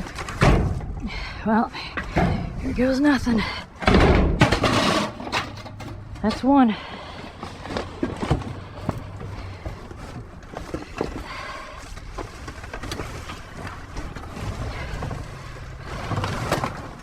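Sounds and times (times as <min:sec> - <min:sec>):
scrap debris knocking and rustling: 0:00.0 - 0:01.0, 0:03.6 - 0:17.0.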